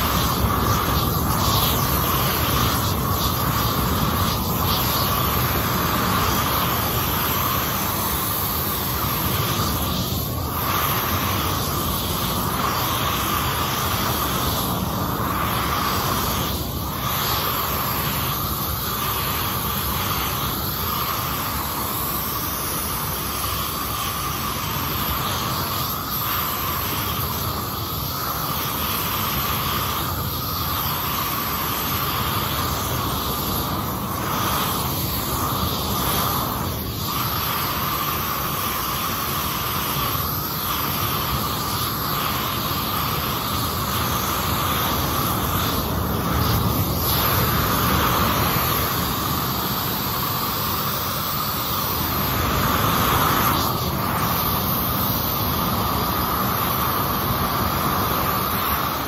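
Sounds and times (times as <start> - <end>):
gas torch hissing: 0.0 - 59.0.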